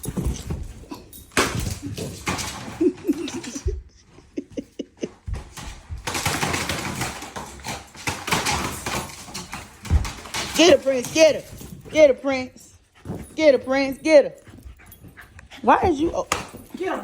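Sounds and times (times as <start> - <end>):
dogs scuffling: 0.0 - 17.0.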